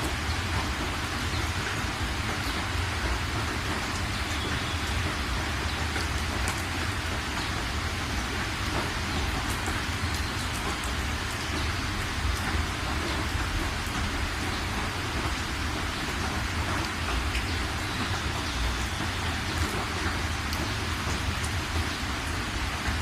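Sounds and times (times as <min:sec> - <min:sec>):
rain drop ticks: 0:00.0 - 0:23.0
rain hissing: 0:00.0 - 0:23.0.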